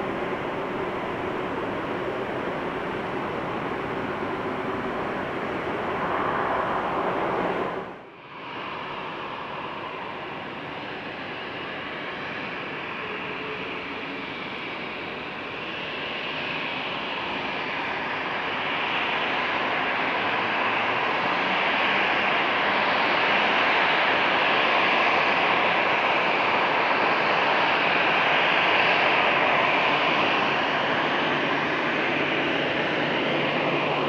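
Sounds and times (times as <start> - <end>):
jet airliner engines: 0.0 - 34.0.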